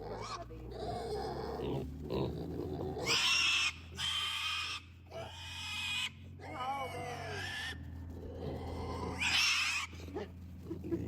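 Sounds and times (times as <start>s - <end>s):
pig squealing: 0.0s - 11.0s.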